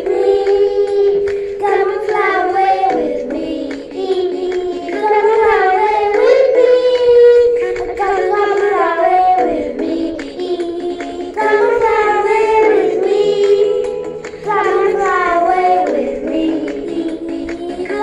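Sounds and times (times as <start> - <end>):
girl singing into microphone: 0.0 - 18.0
recorded backing music: 0.0 - 18.0.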